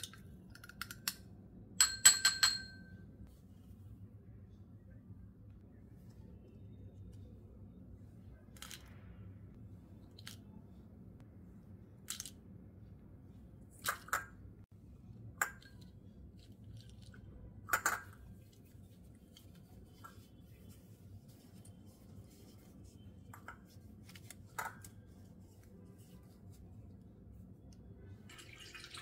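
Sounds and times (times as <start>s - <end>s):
faint low hum: 2.6s - 29.0s.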